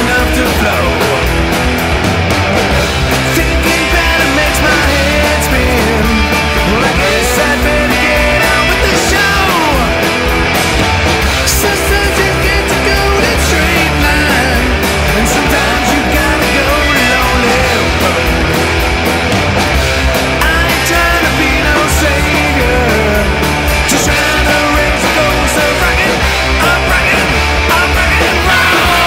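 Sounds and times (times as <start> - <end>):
bass guitar: 0.0 - 29.0
drums: 0.0 - 29.0
electric guitars: 0.0 - 29.0.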